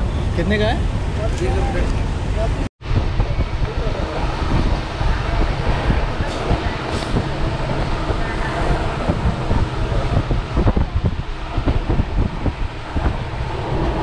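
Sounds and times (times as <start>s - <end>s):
train rumbling at speed: 0.0s - 14.0s
wind buffeting microphone: 0.0s - 14.0s.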